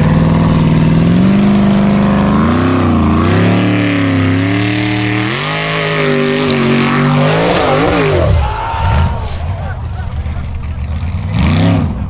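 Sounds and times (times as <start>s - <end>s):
buggy engine revving hard: 0.0s - 12.0s.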